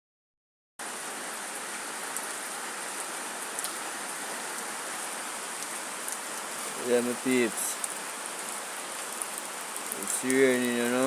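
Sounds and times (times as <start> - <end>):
steady rain falling: 0.8 - 11.0.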